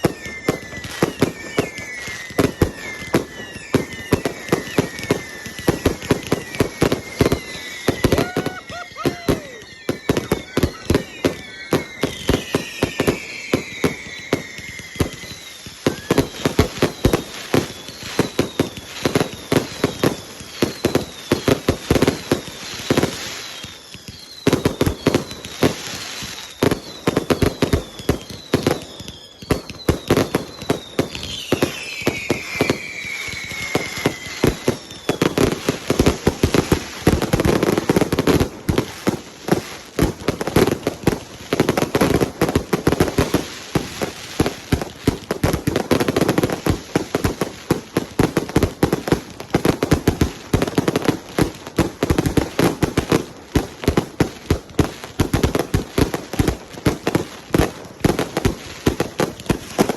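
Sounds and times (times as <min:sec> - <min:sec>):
falling firework whistles: 0:00.0 - 0:59.9
fireworks bangs and crackles: 0:00.0 - 0:59.9.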